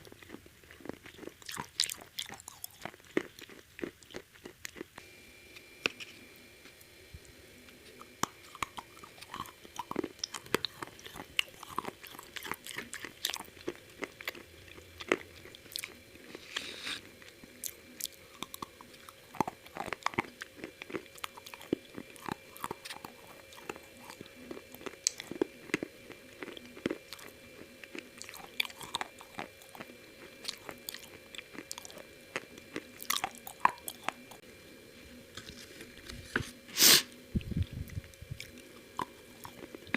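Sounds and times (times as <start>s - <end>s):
crunchy fried chicken chewing: 0.0s - 5.0s, 5.8s - 34.5s, 37.2s - 39.9s.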